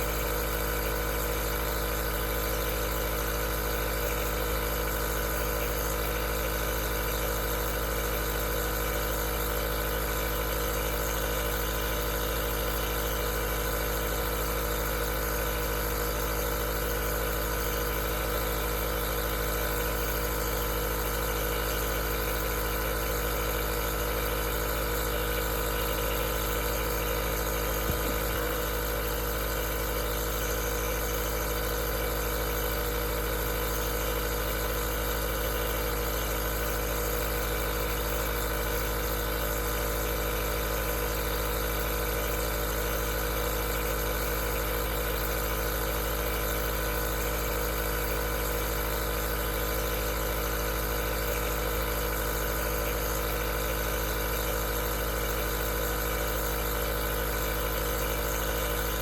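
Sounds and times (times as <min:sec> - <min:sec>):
compressor motor hum: 0:00.0 - 0:59.0.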